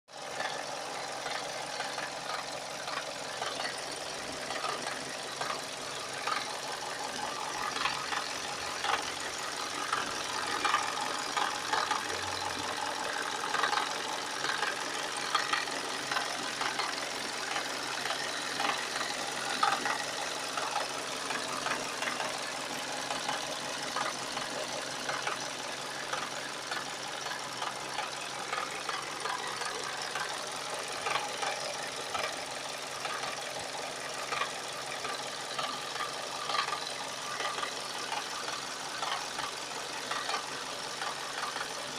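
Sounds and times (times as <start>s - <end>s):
car engine running: 0.1s - 41.9s
engine knocking: 0.1s - 41.9s.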